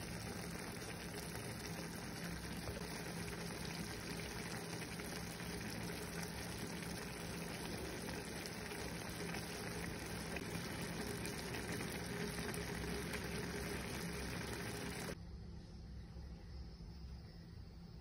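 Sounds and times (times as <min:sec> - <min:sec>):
filling sizzling and bubbling in a pan: 0:00.0 - 0:15.2
faint steady hum: 0:00.0 - 0:18.0.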